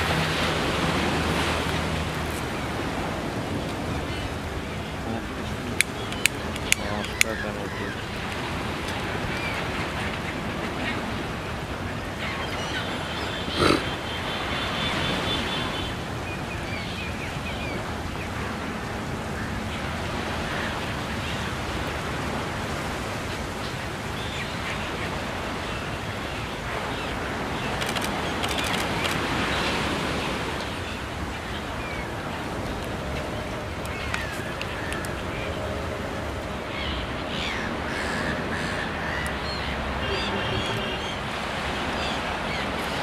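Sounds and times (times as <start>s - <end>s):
rushing outdoor background noise: 0.0s - 43.0s.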